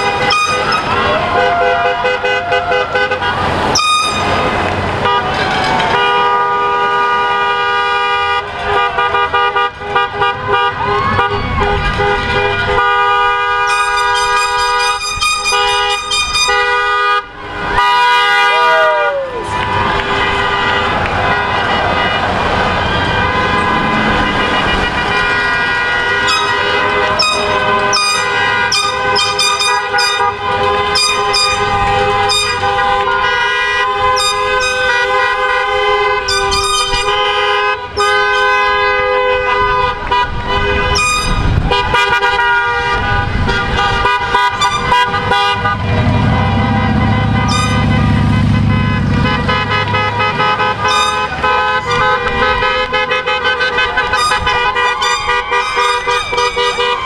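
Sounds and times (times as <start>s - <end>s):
car horns honking: 0.0s - 57.0s
low vehicle rumble: 0.0s - 57.0s.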